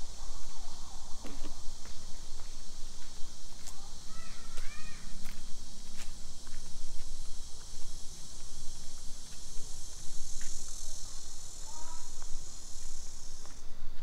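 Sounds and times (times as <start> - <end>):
insects shrilling: 0.0 - 13.7.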